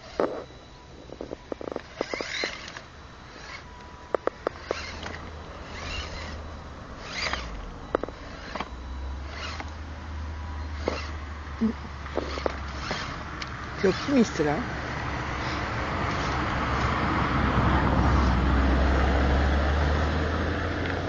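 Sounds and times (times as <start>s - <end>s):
electric motor whining: 0.0s - 18.4s.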